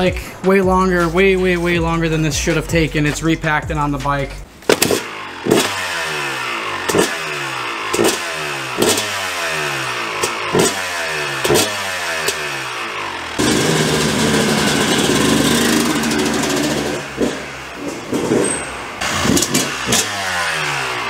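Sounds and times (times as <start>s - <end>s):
dirt bike engine revving: 3.4s - 21.0s.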